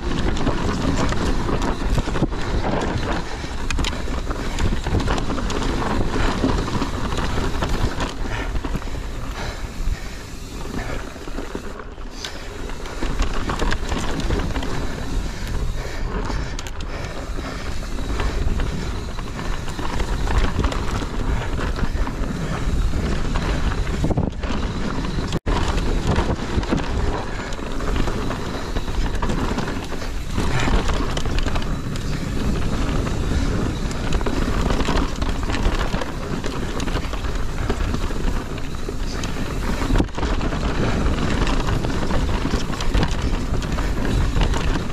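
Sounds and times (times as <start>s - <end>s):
bike rattles and knocks: 0.0s - 44.9s
bike tyres rumbling on trail: 0.0s - 44.9s
wind buffeting microphone: 0.0s - 44.9s.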